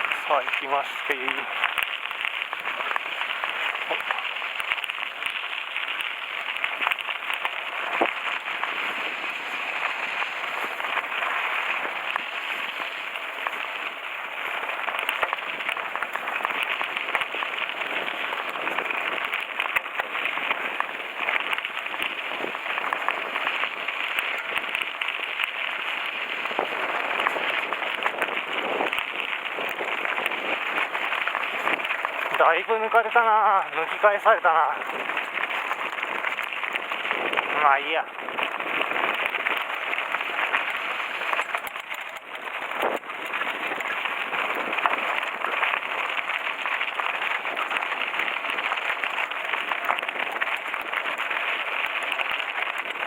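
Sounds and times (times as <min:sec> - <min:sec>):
bike tyres crunching on gravel: 0:00.0 - 0:53.0
stones ticking and popping: 0:00.0 - 0:53.0.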